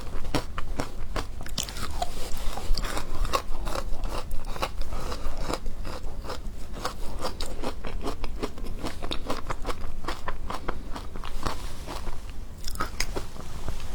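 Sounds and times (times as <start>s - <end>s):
crunching and chewing ice: 0.0s - 13.4s.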